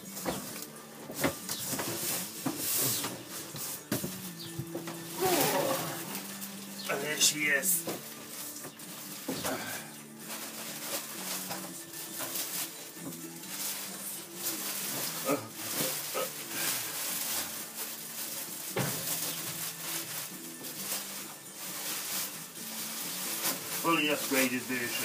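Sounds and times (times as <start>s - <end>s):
background music: 0.0s - 25.0s
plastic wrapping crinkling: 0.0s - 25.0s.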